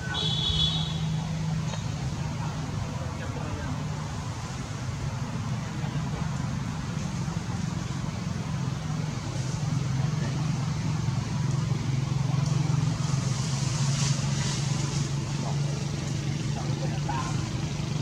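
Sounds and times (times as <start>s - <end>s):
noisy hiss: 0.0s - 18.0s.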